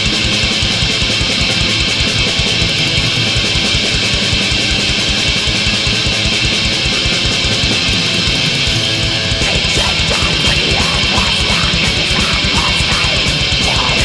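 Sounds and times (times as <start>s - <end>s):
distorted electric guitars: 0.0s - 14.0s
fast kick drumming: 0.0s - 14.0s.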